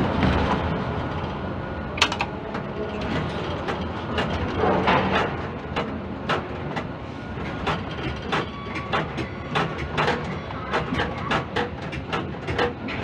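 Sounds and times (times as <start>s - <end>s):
machinery clicks and knocks: 2.0s - 13.0s.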